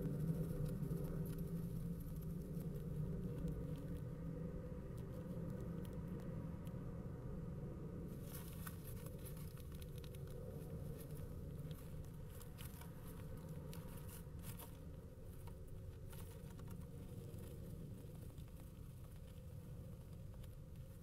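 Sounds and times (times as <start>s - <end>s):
faint scratching and rustling clicks: 0.0s - 6.8s, 8.1s - 21.0s
steady low hum: 0.0s - 21.0s.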